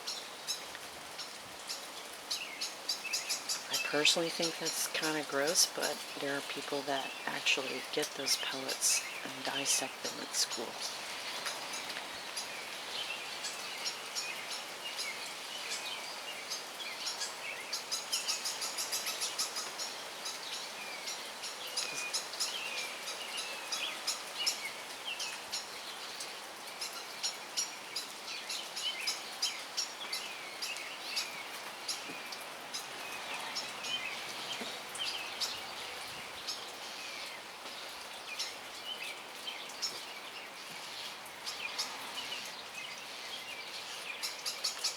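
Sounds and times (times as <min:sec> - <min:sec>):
songbirds chirping: 0:00.0 - 0:44.9
steady background hiss: 0:00.0 - 0:44.9.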